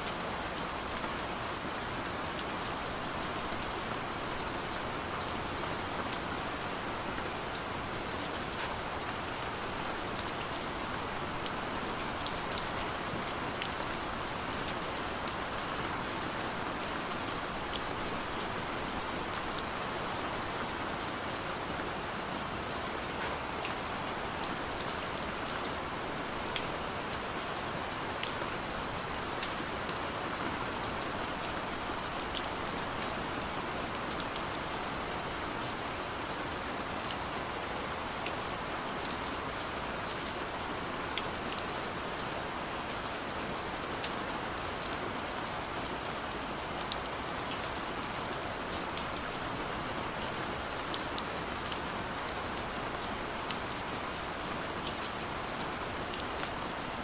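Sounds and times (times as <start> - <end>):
gentle rain falling: 0.0 - 57.0
raindrops ticking on a surface: 0.0 - 57.0.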